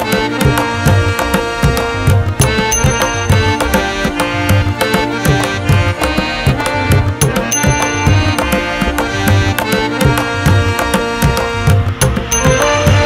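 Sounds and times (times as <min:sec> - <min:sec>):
melodic instruments: 0:00.0 - 0:13.0
steady drum beat: 0:00.0 - 0:13.0.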